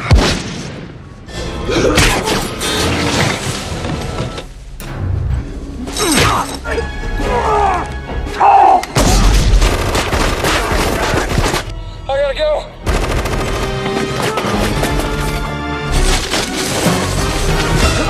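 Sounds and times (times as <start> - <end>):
dramatic trailer music: 0.0 - 18.0.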